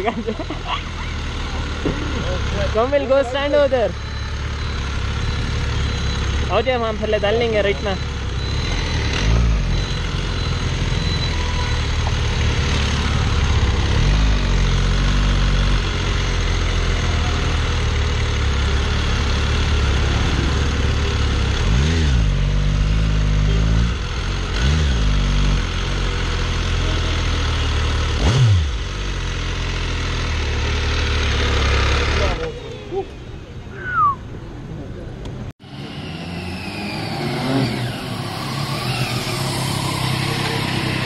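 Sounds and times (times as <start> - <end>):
motorcycle engine revving: 0.0 - 32.7, 35.6 - 41.0.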